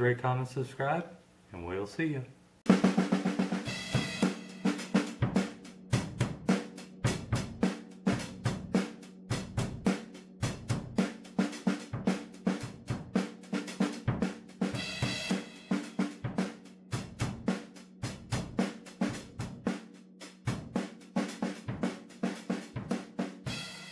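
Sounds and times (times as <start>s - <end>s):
drum kit steady beat: 2.6s - 23.9s.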